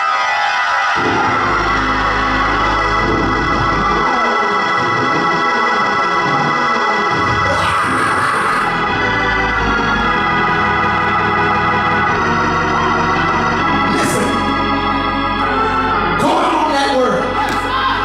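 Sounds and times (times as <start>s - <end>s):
organ playing held chords: 0.0s - 18.0s.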